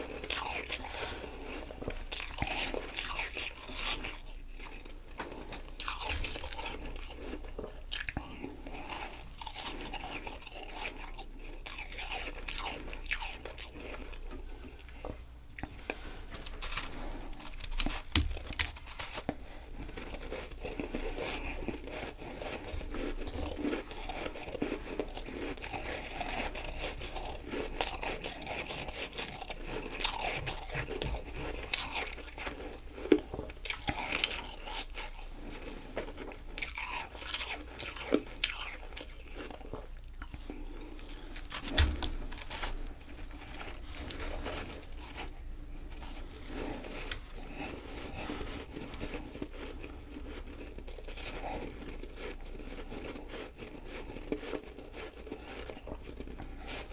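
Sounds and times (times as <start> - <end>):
chewing and crunching ice: 0.0 - 56.9.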